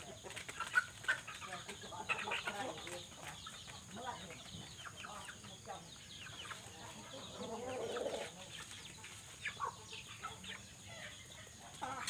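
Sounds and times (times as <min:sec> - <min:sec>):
high animal chirps and clucks: 0:00.0 - 0:12.0.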